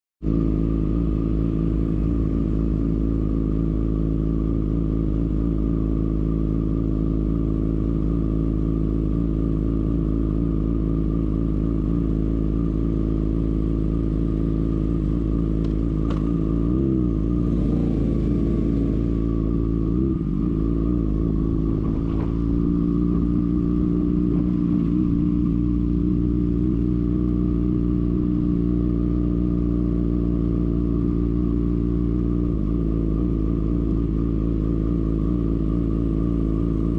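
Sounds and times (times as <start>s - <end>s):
motorcycle engine idling: 0.2s - 36.9s
motorcycle pulling away: 0.3s - 36.9s.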